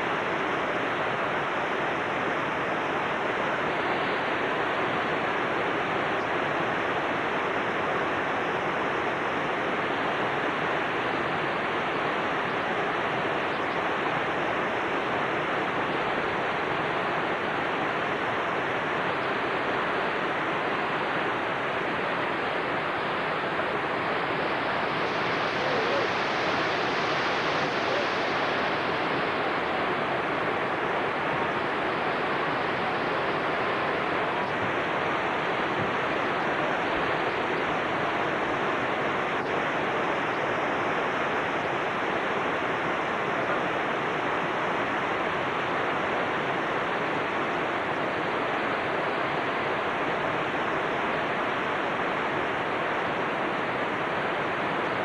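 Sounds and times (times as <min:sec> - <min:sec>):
whitewater rapids roaring: 0:00.0 - 0:55.0.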